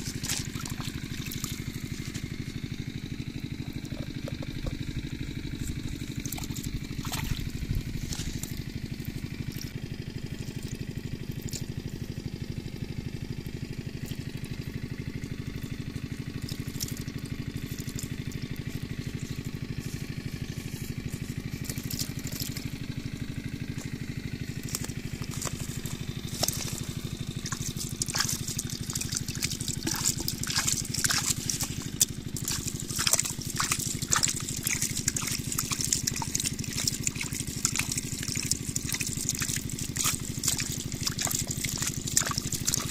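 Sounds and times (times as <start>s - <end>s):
low mechanical drone: 0.0s - 42.9s
water splashing and trickling: 0.0s - 42.9s.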